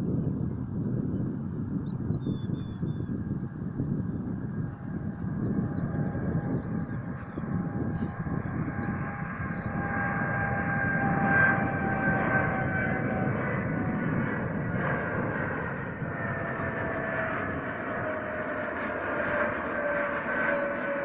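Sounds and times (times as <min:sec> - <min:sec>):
jet engines roaring overhead: 0:00.0 - 0:21.0.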